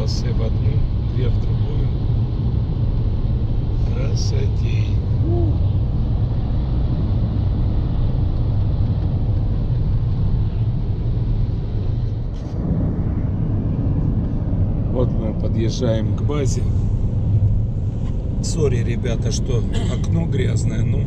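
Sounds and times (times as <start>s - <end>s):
road noise inside car: 0.0s - 21.0s.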